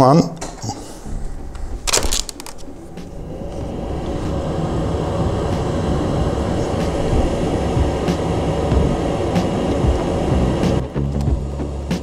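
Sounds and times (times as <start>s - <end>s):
extractor fan drone: 1.0s - 12.0s.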